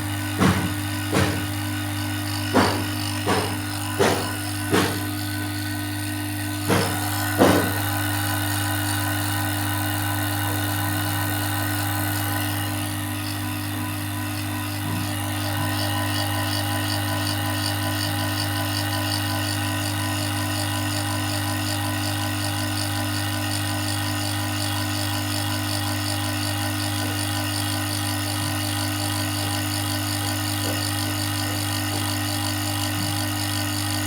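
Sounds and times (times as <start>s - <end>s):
vacuum pump running: 0.0s - 34.0s.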